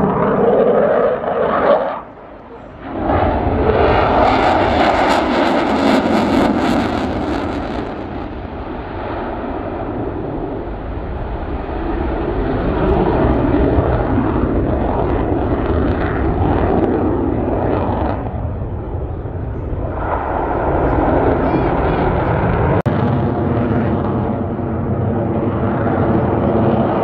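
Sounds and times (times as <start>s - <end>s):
jet engines on afterburner: 0.0s - 27.0s.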